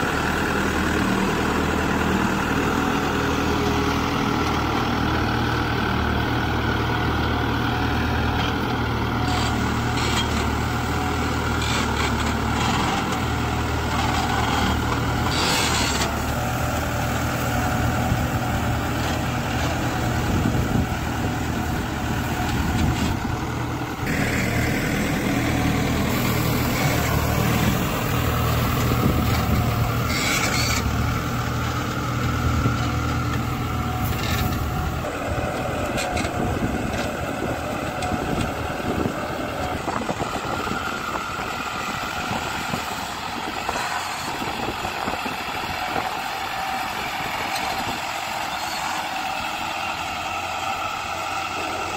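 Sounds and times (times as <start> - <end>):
cultivator working noise: 0.0 - 51.9
tractor diesel engine running: 0.0 - 51.9.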